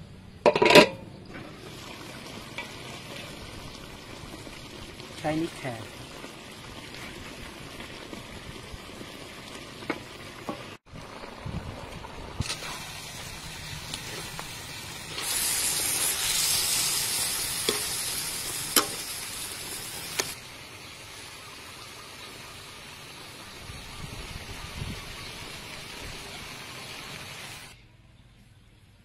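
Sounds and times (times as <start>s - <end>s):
food sizzling in a wok: 1.5s - 27.8s.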